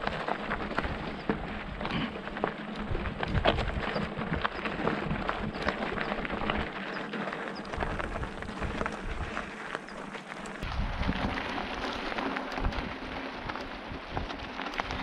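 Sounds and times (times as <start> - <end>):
bike rattling: 0.0 - 15.0
tyres crunching on gravel: 0.0 - 15.0.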